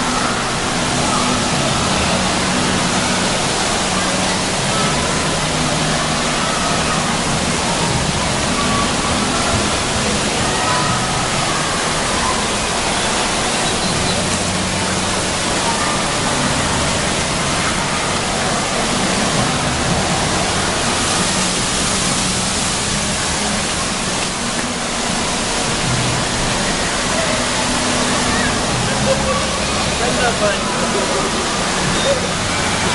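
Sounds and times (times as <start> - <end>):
water pouring and spraying: 0.0 - 32.9.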